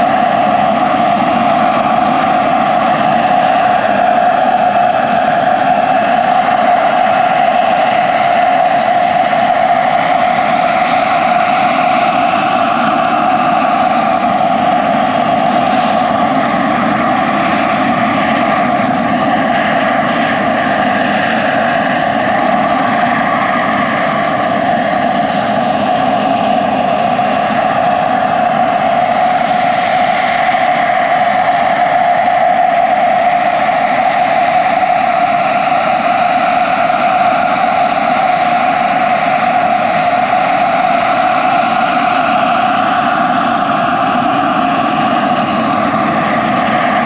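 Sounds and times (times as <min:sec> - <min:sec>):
helicopter rotor noise: 0:00.0 - 0:47.0
turbine whine: 0:00.0 - 0:47.0.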